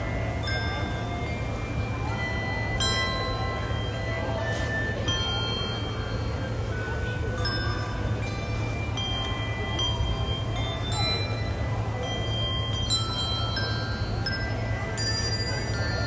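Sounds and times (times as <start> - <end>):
handbells ringing carol: 0.0 - 16.0
steady low hum: 0.0 - 16.0.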